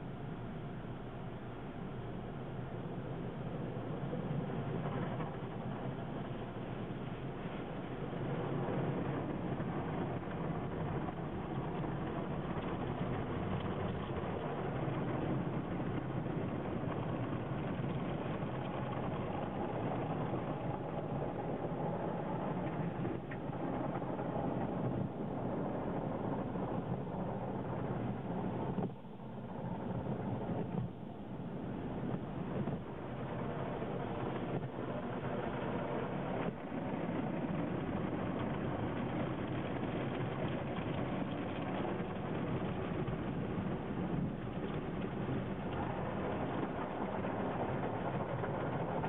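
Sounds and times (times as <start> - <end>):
car wash machinery rushing: 1.8 - 49.0.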